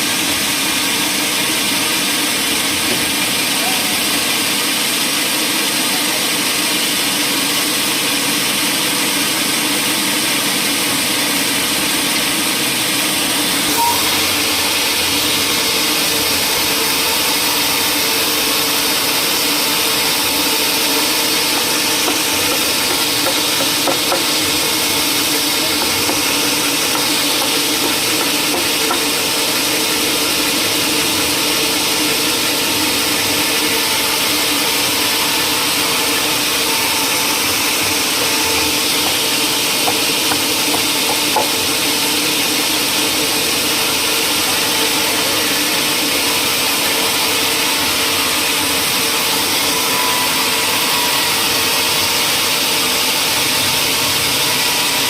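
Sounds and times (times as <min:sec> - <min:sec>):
woodworking machine humming: 0:00.0 - 0:55.0.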